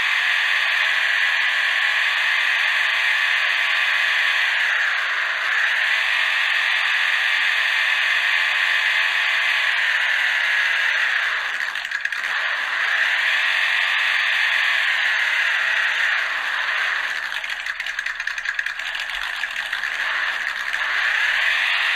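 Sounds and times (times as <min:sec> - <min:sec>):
electric motor and gears whining: 0:00.0 - 0:21.9.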